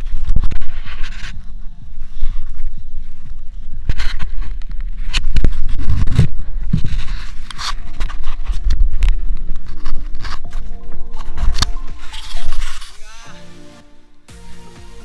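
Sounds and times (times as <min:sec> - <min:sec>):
camera scraping against wood and rope: 0:00.0 - 0:13.0
steady low rumble: 0:00.0 - 0:13.3.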